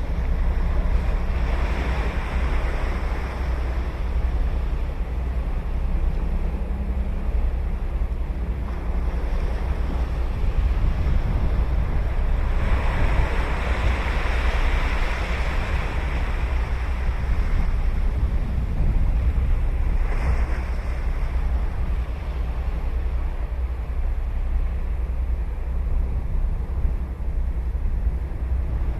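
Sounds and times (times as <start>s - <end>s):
ocean surf breaking: 0.0s - 27.1s
wind rumble on microphone: 0.0s - 28.9s.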